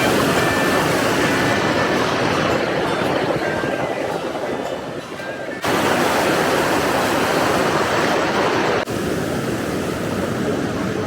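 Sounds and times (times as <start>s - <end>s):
waterfall rushing: 0.0s - 3.8s, 5.6s - 11.0s.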